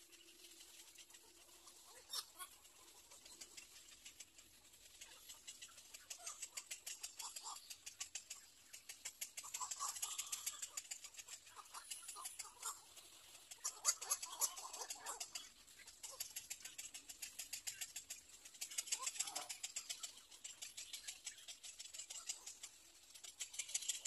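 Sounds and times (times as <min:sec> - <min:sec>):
chicks clicking chatter: 0:00.0 - 0:24.0.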